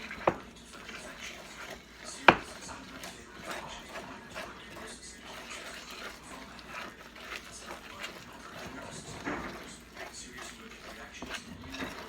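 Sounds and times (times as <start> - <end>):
spoon stirring wet batter: 0.0 - 12.0.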